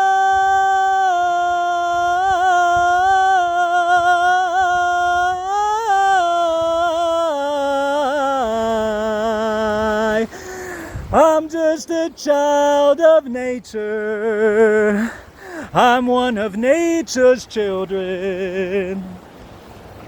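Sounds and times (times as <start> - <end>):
person singing wordless melody: 0.0 - 19.3.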